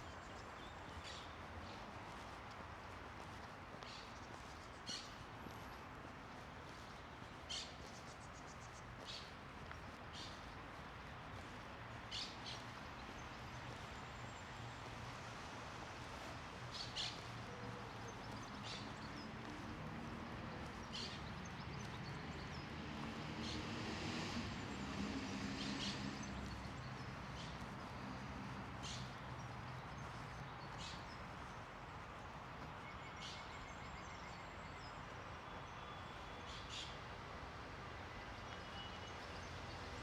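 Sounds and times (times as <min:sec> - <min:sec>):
small birds chirping: 0:00.0 - 0:15.0, 0:16.0 - 0:35.0.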